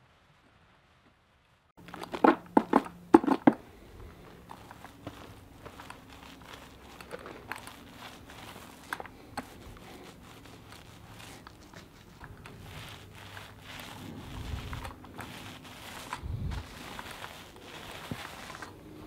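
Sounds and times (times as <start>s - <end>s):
paint roller crackling on floor: 1.7s - 19.0s.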